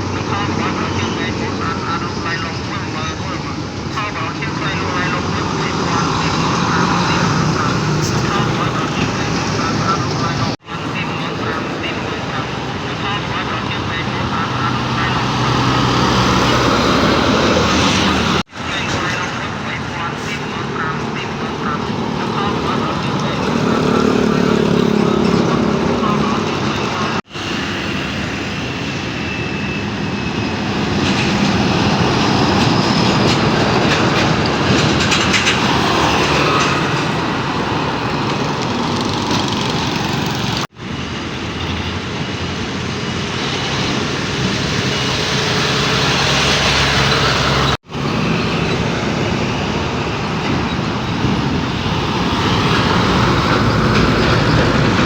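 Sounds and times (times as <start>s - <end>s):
heavy trucks diesel engines: 0.0s - 55.0s
road noise: 0.0s - 55.0s.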